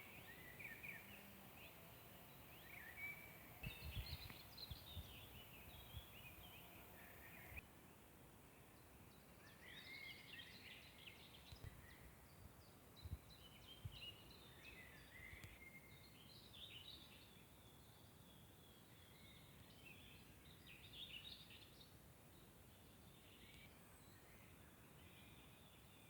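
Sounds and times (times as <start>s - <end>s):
faint songbirds singing: 0.0s - 26.0s.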